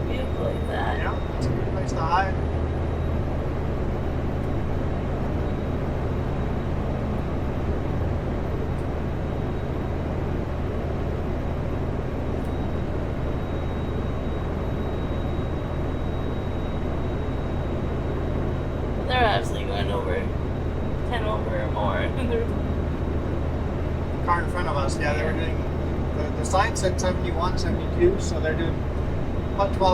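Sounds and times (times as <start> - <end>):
faint high whine: 0.0 - 29.9
road noise: 0.0 - 29.9
truck diesel engine drone: 0.0 - 29.9.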